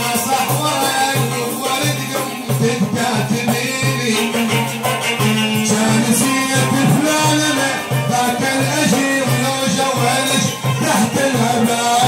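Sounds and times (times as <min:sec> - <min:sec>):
folk music with oud and violin: 0:00.0 - 0:12.0.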